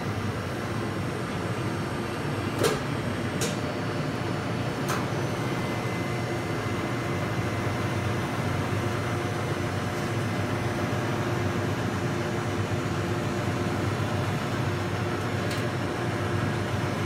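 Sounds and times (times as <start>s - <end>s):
frozen yogurt machine humming: 0.0s - 17.0s.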